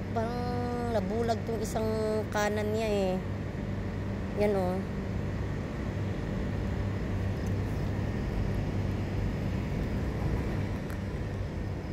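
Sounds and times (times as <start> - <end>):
faint hum: 0.0 - 11.9
low background rumble: 0.0 - 11.9.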